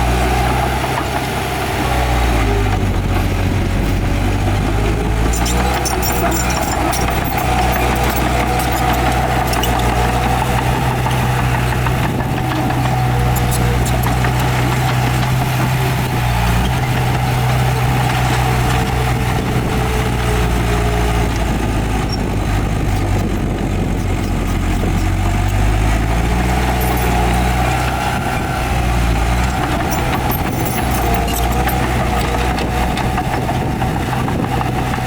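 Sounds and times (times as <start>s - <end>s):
heavy diesel engine droning: 0.0s - 35.0s.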